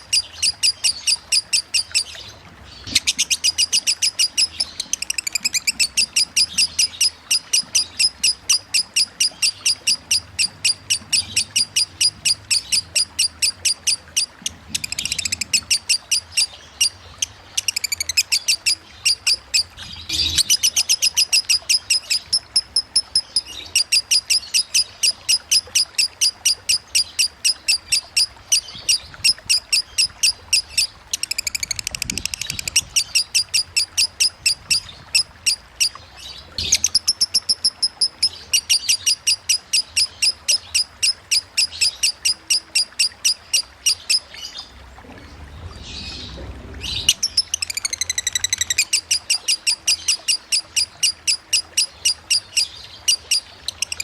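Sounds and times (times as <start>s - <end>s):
bird chattering song: 0.0s - 44.8s, 45.8s - 54.0s.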